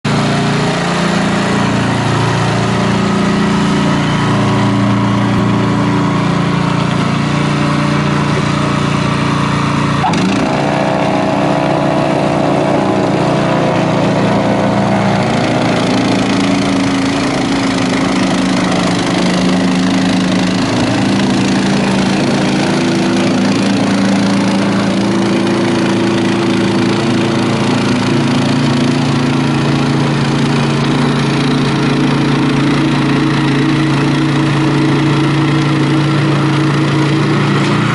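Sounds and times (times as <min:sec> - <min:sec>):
snowblower engine running: 0:00.0 - 0:37.9.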